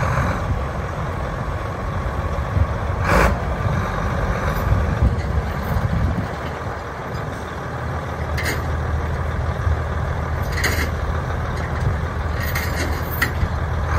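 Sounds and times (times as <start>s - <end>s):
diesel engine rumbling: 0.0s - 13.9s.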